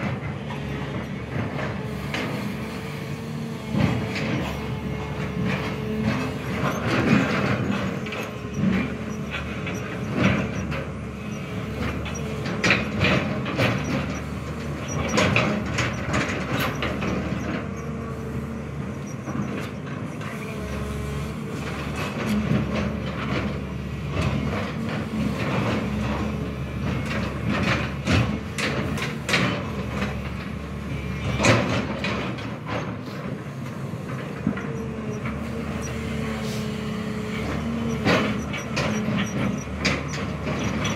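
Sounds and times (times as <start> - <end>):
diesel engine running: 0.0 - 40.9
excavator bucket clanking: 3.6 - 36.1, 37.2 - 40.9.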